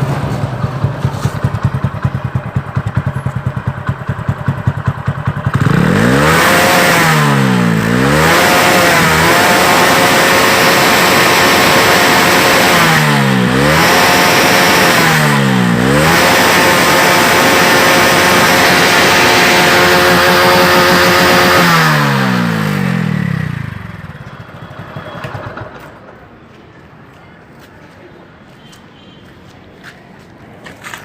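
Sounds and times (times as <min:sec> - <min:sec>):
motorcycle engine revving: 0:00.0 - 0:25.8.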